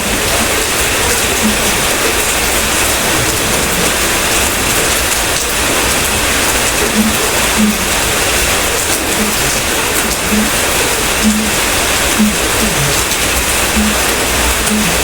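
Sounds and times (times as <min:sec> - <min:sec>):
soft low drips: 0:00.0 - 0:15.0
steady rain falling: 0:00.0 - 0:15.0.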